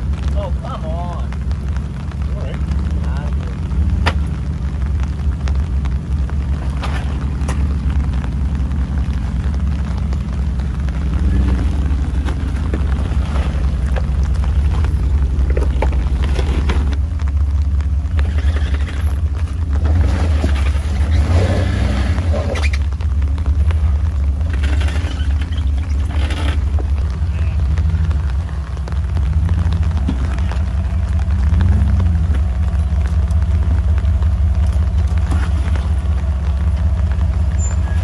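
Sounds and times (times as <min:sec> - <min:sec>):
off-road engines rumbling: 0:00.0 - 0:38.0.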